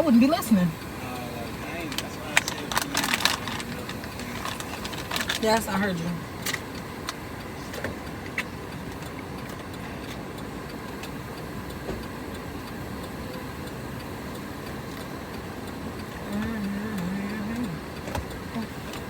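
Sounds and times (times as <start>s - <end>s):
air conditioning hum: 0.0s - 19.0s
car engine idling: 0.0s - 19.0s.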